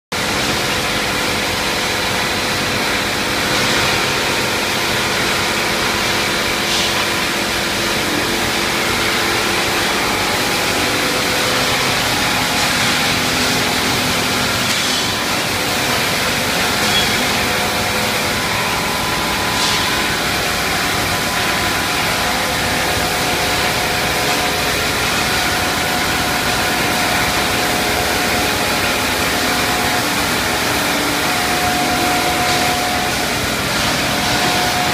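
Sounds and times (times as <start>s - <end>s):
machinery running: 0.2s - 34.9s.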